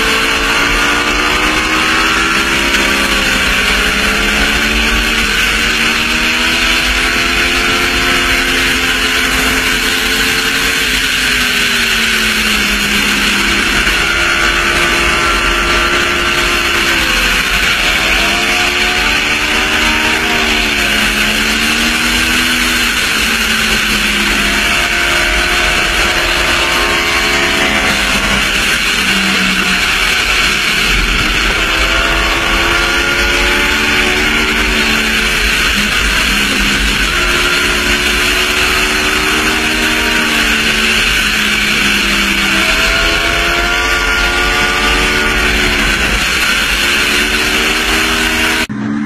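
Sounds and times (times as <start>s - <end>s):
sport bike engine revving: 0.0s - 49.0s.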